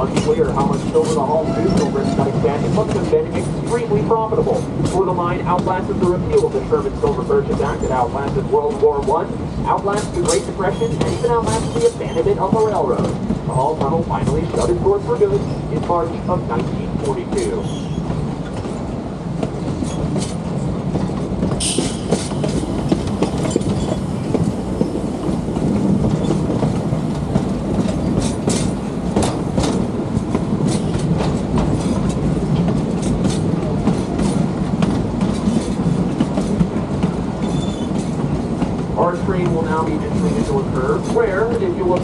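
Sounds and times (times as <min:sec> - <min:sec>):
train cars rumbling: 0:00.0 - 0:42.0
wheels clacking over rails: 0:00.0 - 0:42.0.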